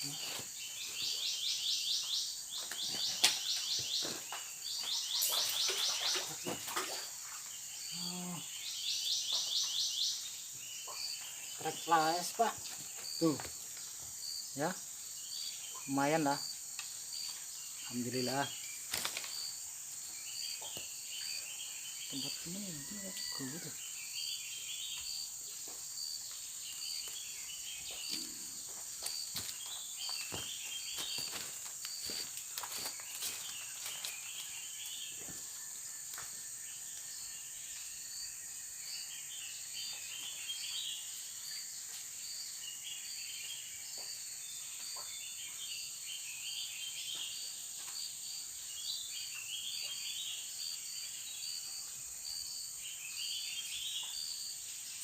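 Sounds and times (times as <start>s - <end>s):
high insect hiss: 0.0s - 55.0s.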